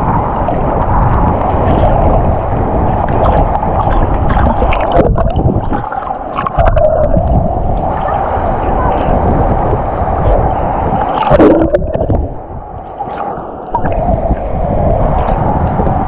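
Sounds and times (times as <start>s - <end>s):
sea water sloshing and splashing: 0.0s - 16.0s.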